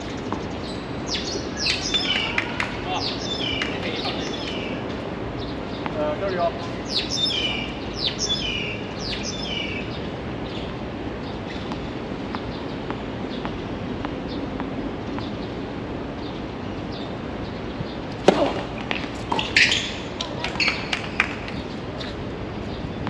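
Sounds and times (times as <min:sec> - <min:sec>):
small birds chirping: 0:00.0 - 0:23.0
steady background hum: 0:00.0 - 0:23.0.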